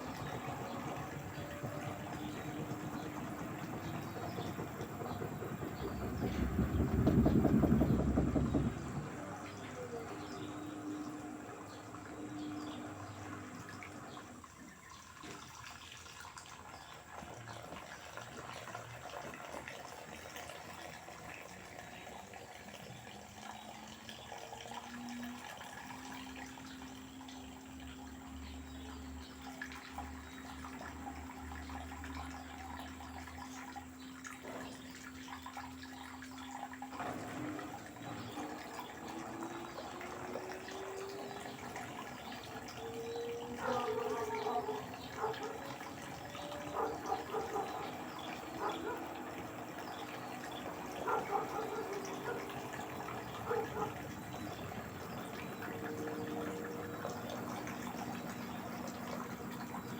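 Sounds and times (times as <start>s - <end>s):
washing machine motor whine: 0.0s - 59.9s
water sloshing in washing machine: 0.0s - 59.9s.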